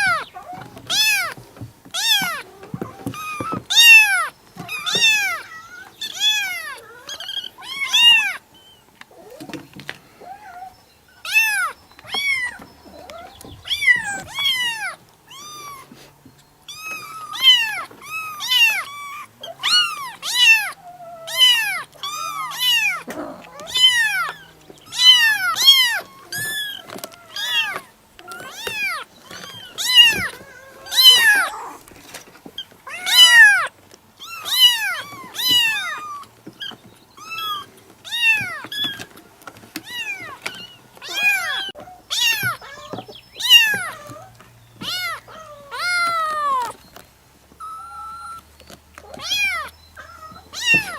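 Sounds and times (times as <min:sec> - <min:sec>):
kitten meowing: 0:00.0 - 0:01.4, 0:02.0 - 0:08.4, 0:11.2 - 0:16.0, 0:16.7 - 0:31.8, 0:32.9 - 0:39.1, 0:39.8 - 0:46.8, 0:49.0 - 0:50.9.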